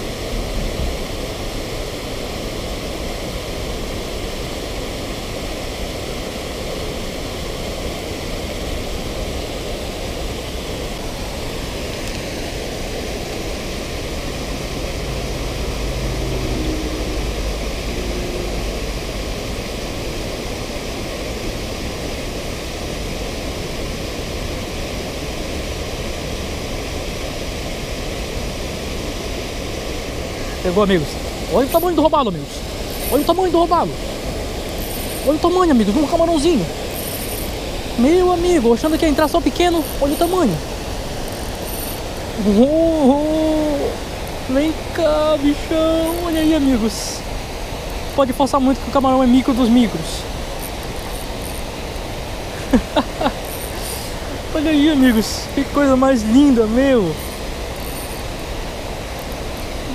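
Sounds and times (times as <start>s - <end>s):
river water pouring over weir: 0.0s - 59.9s.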